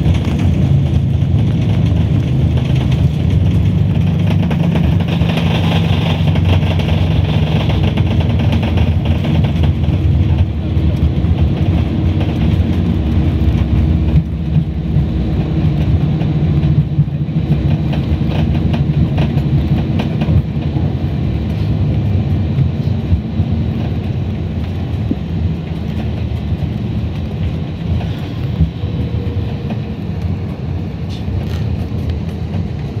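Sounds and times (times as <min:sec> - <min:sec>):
aircraft cabin rumble: 0:00.0 - 0:33.0.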